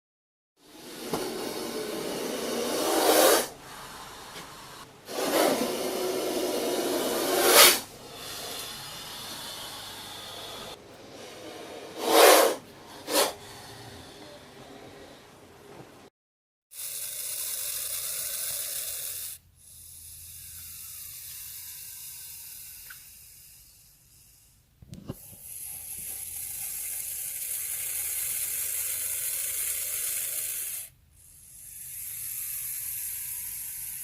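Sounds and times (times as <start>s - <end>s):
snake hissing: 0.6s - 14.2s, 16.7s - 34.0s.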